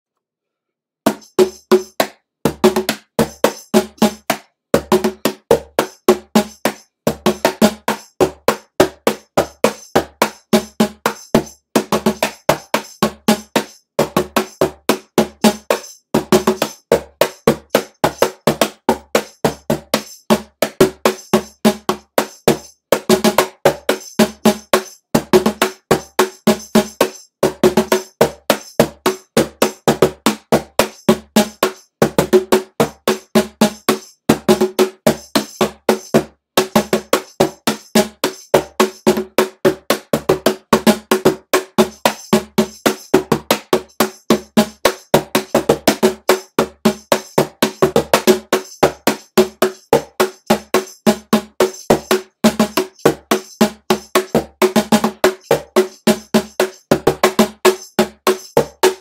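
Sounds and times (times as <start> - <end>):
cajon played by hand: 1.1 - 59.0.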